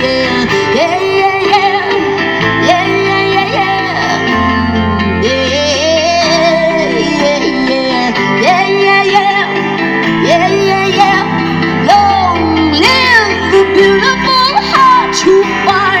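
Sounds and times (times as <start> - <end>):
sustained instrumental chords: 0.0 - 16.0.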